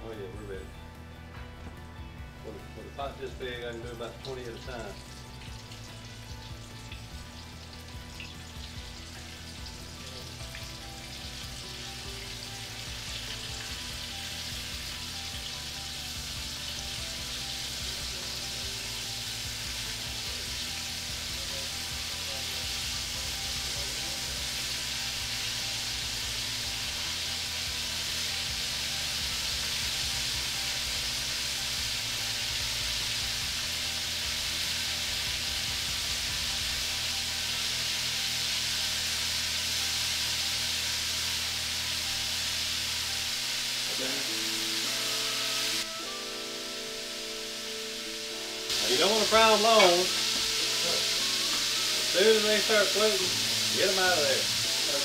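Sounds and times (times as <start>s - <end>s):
deep-frying sizzle and bubbling: 1.4s - 55.0s.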